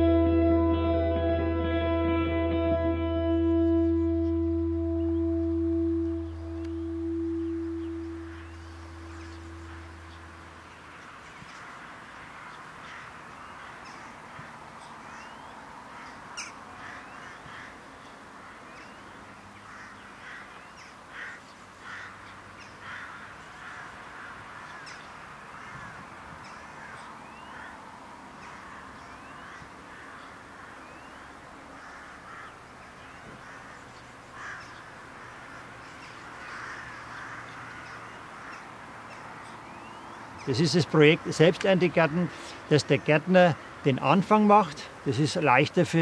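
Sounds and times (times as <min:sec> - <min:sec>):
steady background hiss: 0:00.0 - 0:46.0
birds calling and chirping: 0:02.3 - 0:46.0.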